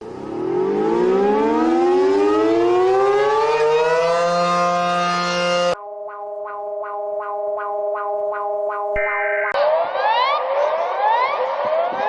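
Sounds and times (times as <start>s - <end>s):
civil defense siren wailing: 0.1s - 12.0s.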